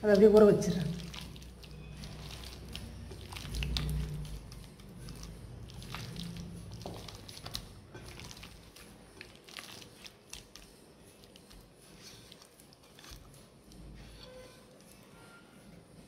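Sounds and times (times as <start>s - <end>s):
wet squelches of marinated chicken: 0.0s - 14.1s.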